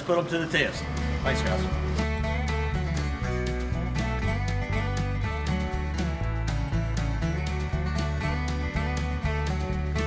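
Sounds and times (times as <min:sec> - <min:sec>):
upbeat country music: 0:00.5 - 0:10.0.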